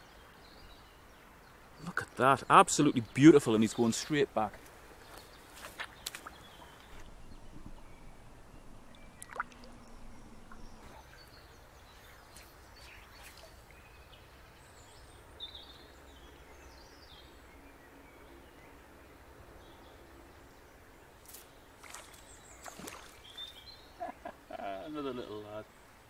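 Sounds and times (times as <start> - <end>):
shallow river over stones: 0.0 - 8.1, 8.9 - 24.1.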